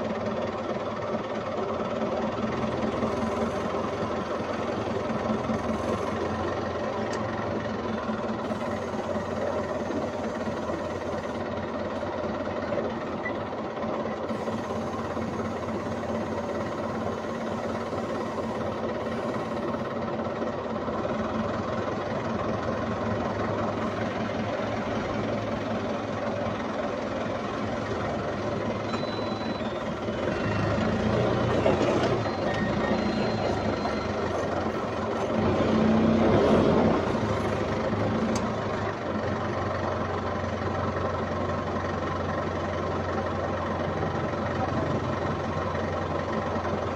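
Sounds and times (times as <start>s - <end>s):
forklift engine running: 0.0s - 46.9s.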